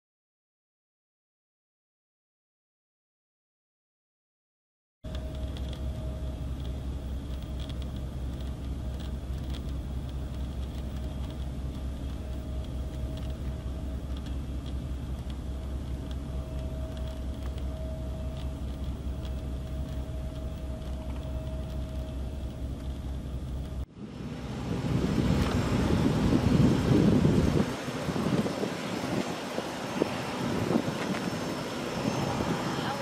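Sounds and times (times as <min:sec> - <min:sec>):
distant jet engines idling: 0:05.1 - 0:33.0.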